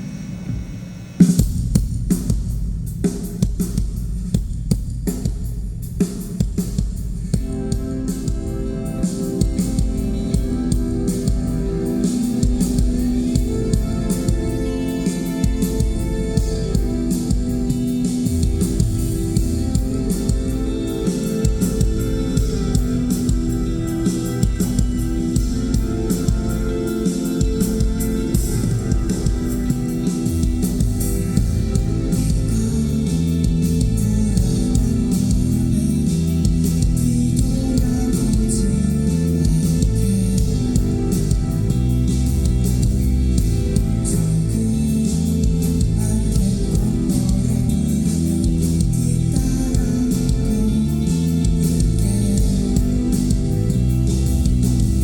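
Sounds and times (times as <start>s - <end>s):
drum kit beat: 0.5s - 55.0s
strummed guitar chords: 7.3s - 55.0s.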